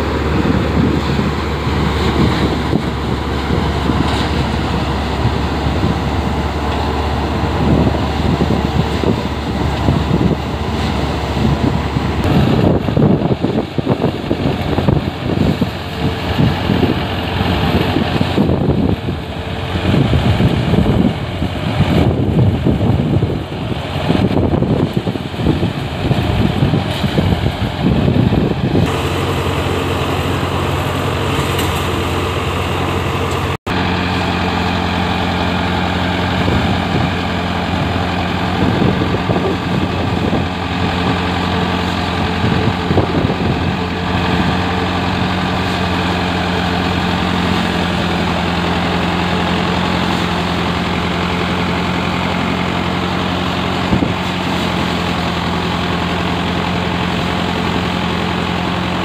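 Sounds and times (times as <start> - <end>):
gusty rushing noise: 0.0 - 56.2
thresher drum and blower: 0.0 - 59.0
tractor engine running: 0.0 - 59.0.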